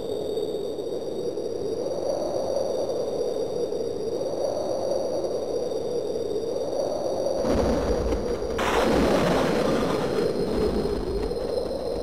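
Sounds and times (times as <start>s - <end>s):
wind-like rushing noise: 0.9s - 12.0s.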